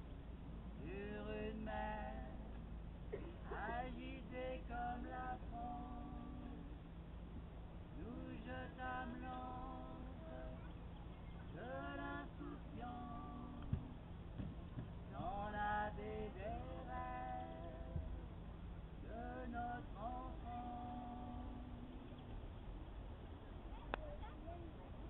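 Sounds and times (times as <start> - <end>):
voices singing held notes: 0.0 - 22.5
steady low rumble: 0.0 - 25.0.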